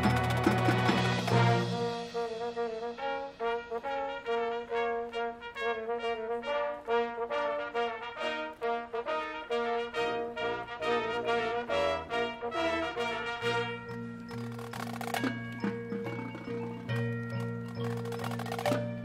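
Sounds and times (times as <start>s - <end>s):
marching band brass playing: 0.0s - 16.9s.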